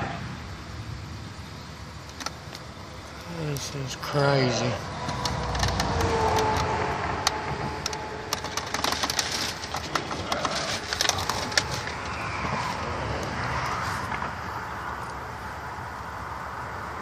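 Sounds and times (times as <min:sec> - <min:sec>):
car and road noise: 0:00.0 - 0:17.0.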